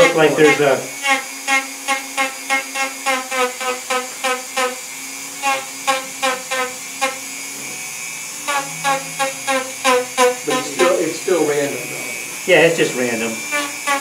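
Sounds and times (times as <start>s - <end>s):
burr whine cutting wood: 0.0s - 14.0s
rotary tool running: 0.0s - 14.0s.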